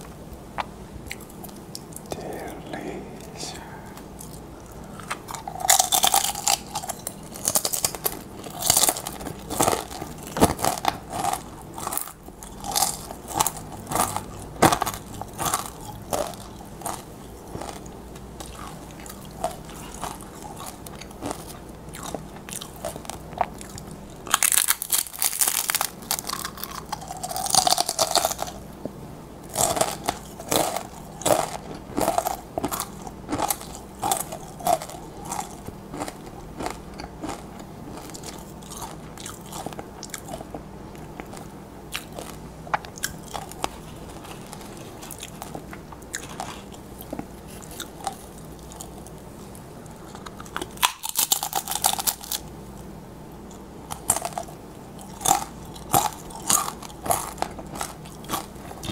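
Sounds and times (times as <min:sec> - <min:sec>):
chips crunching being chewed: 0:00.6 - 0:28.6, 0:29.4 - 0:52.5, 0:53.4 - 0:58.9.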